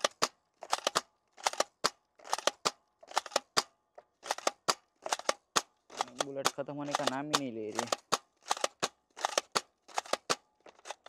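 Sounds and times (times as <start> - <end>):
toy gun plastic clicks and snaps: 0.0 - 11.0.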